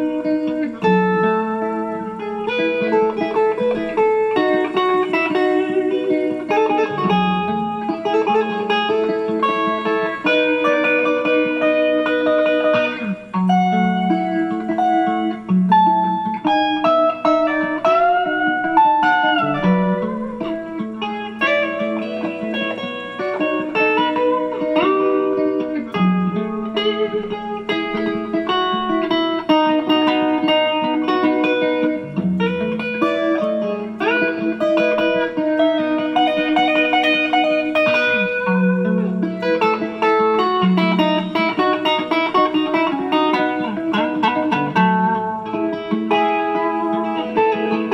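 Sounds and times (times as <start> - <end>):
electric guitar melody: 0.0 - 47.9.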